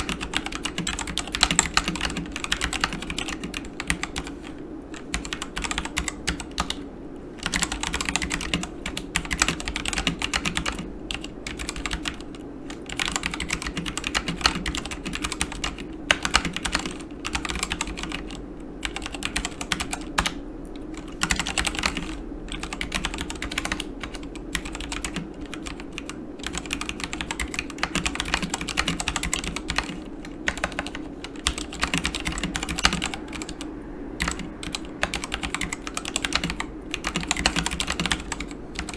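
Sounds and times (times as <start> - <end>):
mechanical keyboard typing: 0.0 - 6.8, 7.4 - 20.4, 21.0 - 33.6, 34.2 - 38.9.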